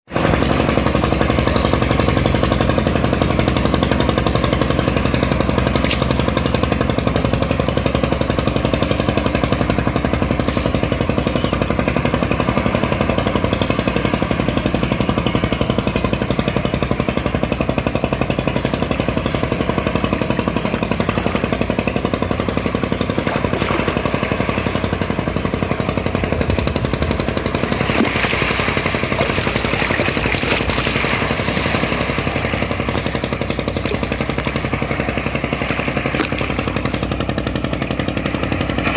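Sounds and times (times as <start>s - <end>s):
ferry engine clattering: 0.1s - 38.9s.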